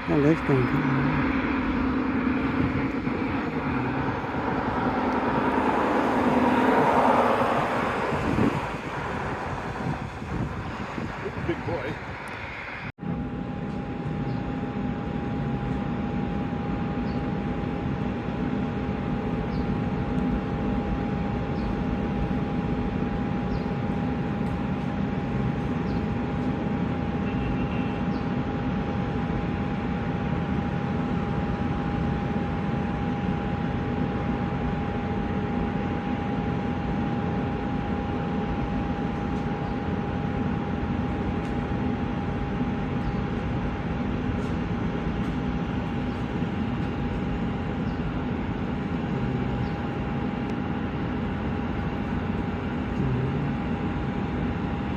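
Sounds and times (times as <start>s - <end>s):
jet engines whining: 0.0s - 54.9s.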